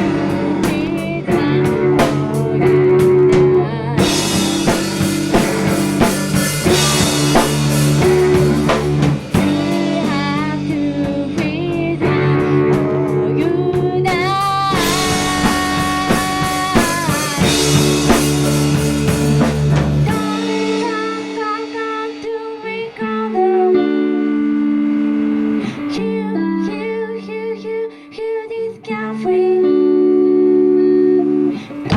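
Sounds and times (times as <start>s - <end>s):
person singing: 0.0s - 18.8s, 20.0s - 24.8s, 25.6s - 31.9s
drum kit: 0.0s - 26.0s
bass: 0.0s - 26.8s
electric guitar: 0.0s - 31.9s.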